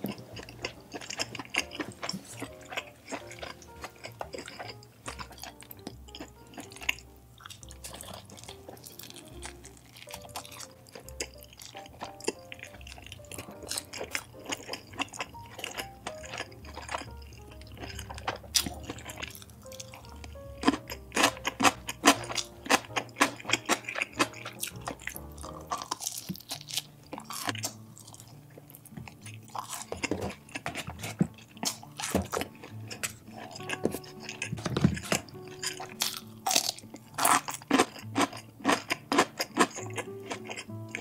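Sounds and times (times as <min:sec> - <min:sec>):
chewing mouth sounds: 0:00.0 - 0:41.0
light background music: 0:00.0 - 0:41.0.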